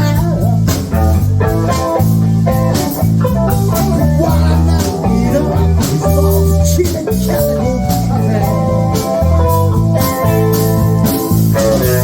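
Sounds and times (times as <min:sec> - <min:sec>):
bass guitar: 0:00.0 - 0:12.0
drums: 0:00.0 - 0:12.0
guitar: 0:00.0 - 0:12.0.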